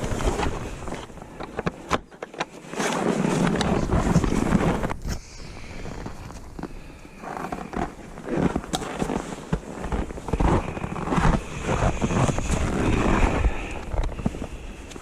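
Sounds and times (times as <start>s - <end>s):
rope rustling: 0.0s - 15.0s.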